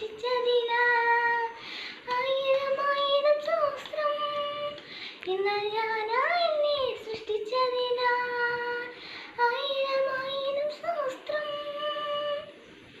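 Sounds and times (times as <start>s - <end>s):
girl singing sustained notes: 0.0s - 12.7s.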